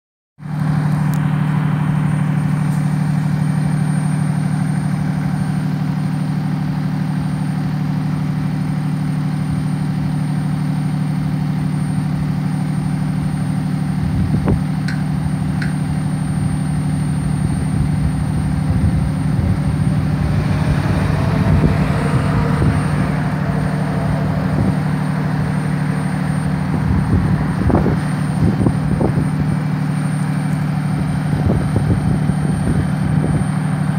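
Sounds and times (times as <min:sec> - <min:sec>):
diesel engine humming: 0:00.4 - 0:33.9
rising whine: 0:00.4 - 0:33.9.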